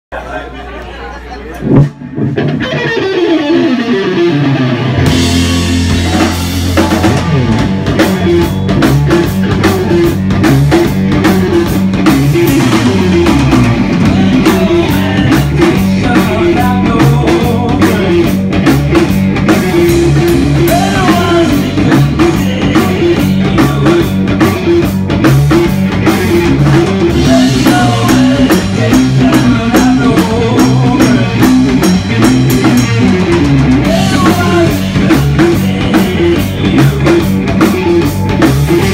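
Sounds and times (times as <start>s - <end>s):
guitar riffs: 1.5s - 38.9s
drum kit: 1.6s - 38.9s.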